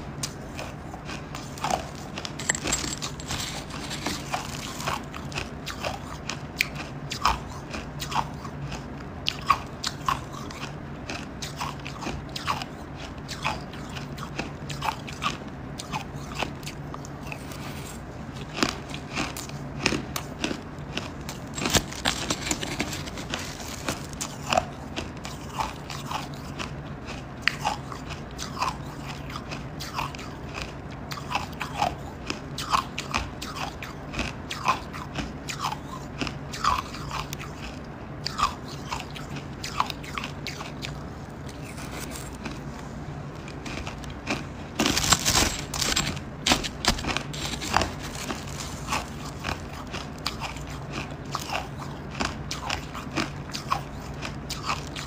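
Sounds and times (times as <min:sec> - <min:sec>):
ice chunks being chewed: 0:00.1 - 0:55.0.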